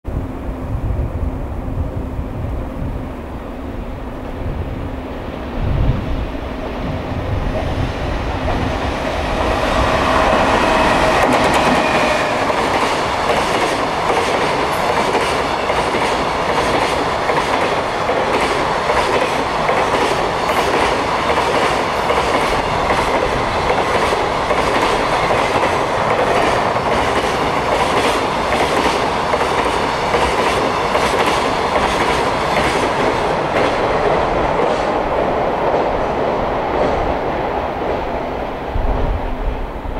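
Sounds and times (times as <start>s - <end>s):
train rumble: 0.1s - 39.9s.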